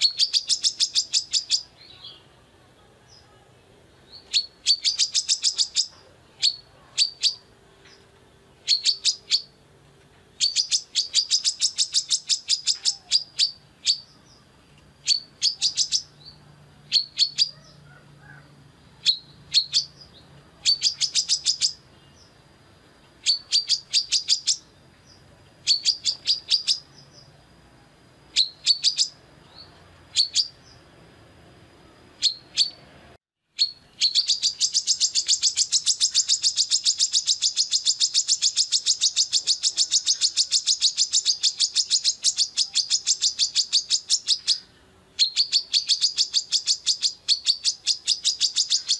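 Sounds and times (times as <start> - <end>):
sunbird high chirps: 0.0 - 9.7, 10.3 - 31.2, 31.8 - 48.9.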